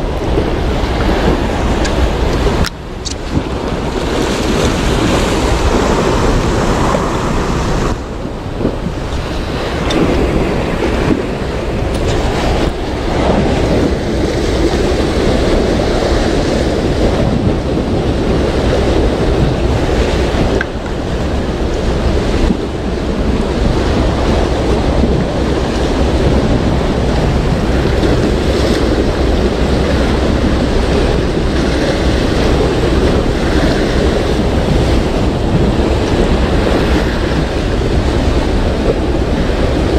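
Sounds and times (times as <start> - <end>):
sea waves washing: 0.0 - 39.9
wind buffeting microphone: 0.0 - 39.9.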